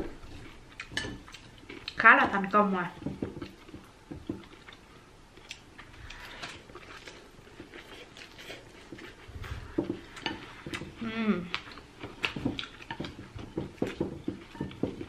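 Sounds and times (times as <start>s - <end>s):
chewing: 0.1s - 2.0s, 3.3s - 10.9s, 11.5s - 15.0s.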